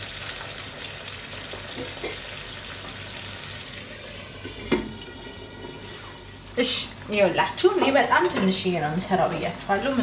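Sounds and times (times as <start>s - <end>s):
stew sizzling in a frying pan: 0.0s - 10.0s.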